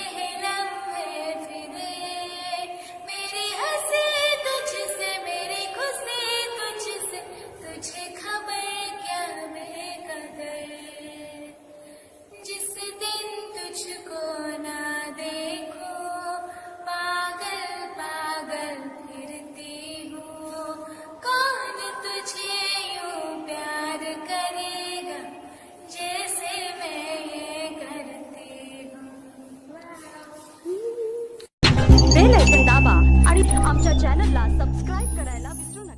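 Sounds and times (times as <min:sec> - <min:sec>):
woman singing: 0:00.0 - 0:11.6, 0:12.4 - 0:31.5, 0:32.2 - 0:35.9.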